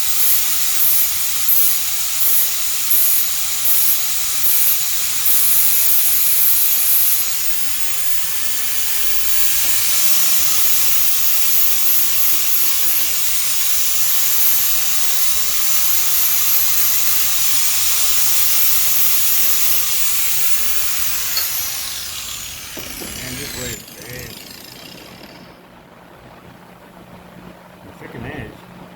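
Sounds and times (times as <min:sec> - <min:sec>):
angle grinder grinding steel: 0:00.0 - 0:25.6.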